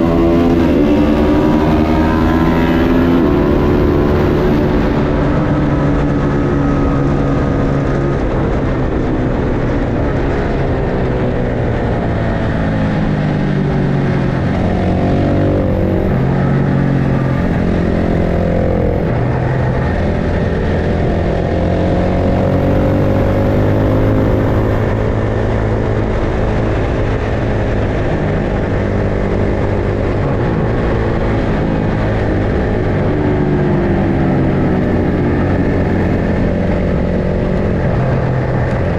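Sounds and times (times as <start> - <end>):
racing motorcycles engines: 0.0 - 38.9.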